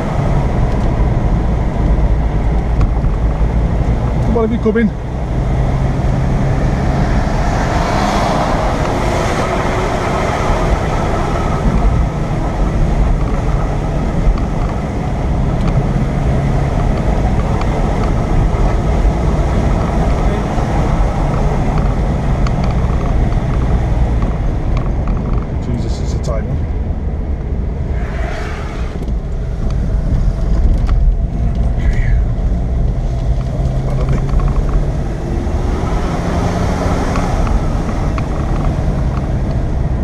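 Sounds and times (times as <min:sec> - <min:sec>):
car engine running under load: 0:00.0 - 0:40.0
wind and road noise: 0:00.0 - 0:40.0.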